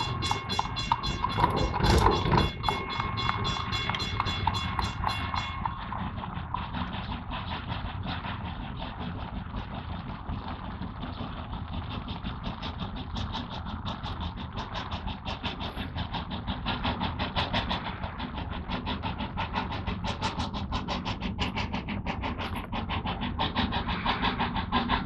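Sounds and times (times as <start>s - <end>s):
locomotive low rumble: 0.0s - 25.0s
steam locomotive chuffing: 0.0s - 25.0s.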